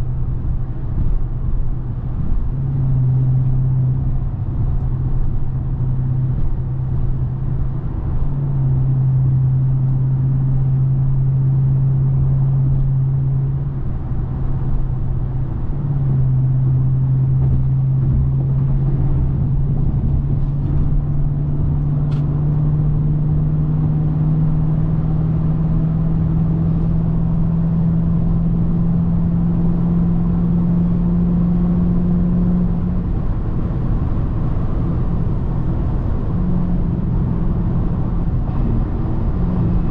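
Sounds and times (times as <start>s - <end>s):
car engine and exhaust droning: 0.0s - 39.9s
road rumble: 0.0s - 39.9s.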